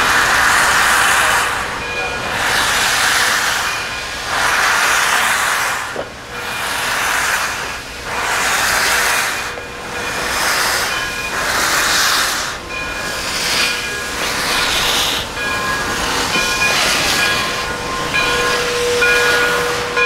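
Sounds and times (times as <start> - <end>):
rhythmic steam locomotive hissing: 0.0 - 20.0.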